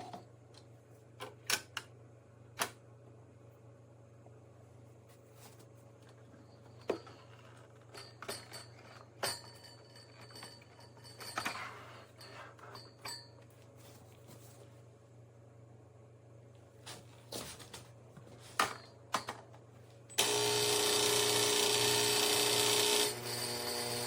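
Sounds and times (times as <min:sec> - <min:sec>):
low steady hum: 0:00.0 - 0:20.2.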